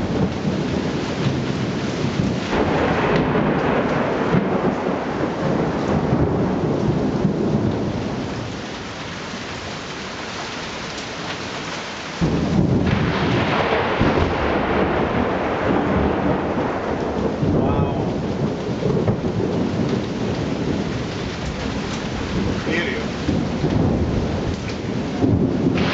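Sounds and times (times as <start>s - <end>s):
thunder rumbling: 0.0s - 9.9s, 12.2s - 25.9s
steady rain: 0.0s - 25.9s.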